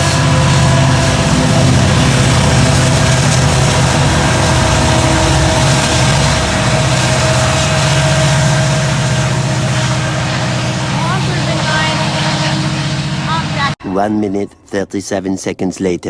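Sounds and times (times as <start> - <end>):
diesel locomotive engines rumbling: 0.0 - 13.8
thin steady whine: 0.0 - 13.8.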